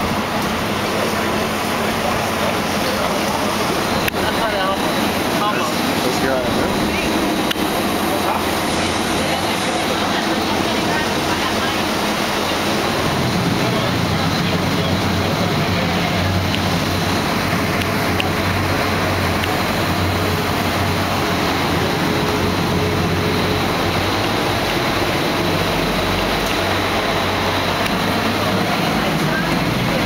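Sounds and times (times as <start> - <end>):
boat engine hum: 0.0 - 30.0
rushing water and wind: 0.0 - 30.0.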